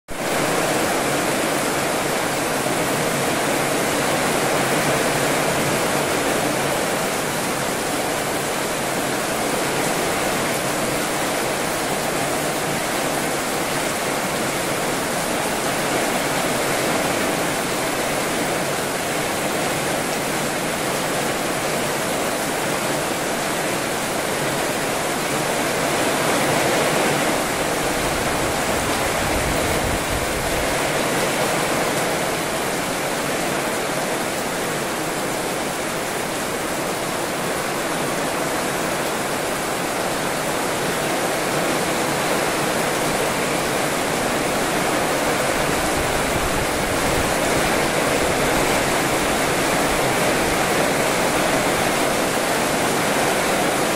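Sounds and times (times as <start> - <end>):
heavy rain falling: 0.1 - 53.9.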